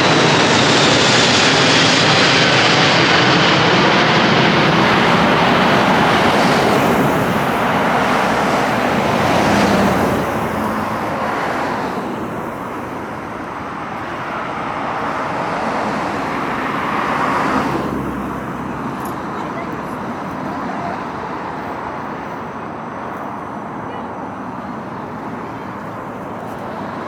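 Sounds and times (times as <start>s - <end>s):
jet airliner engine rushing: 0.0s - 27.0s.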